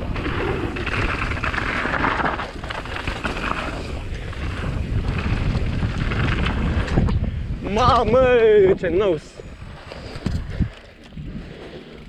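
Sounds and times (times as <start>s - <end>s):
bike clicks and rattles: 0.0s - 8.4s, 9.6s - 12.0s
bike tyres on dirt: 0.0s - 12.0s
wind buffeting microphone: 0.0s - 12.0s.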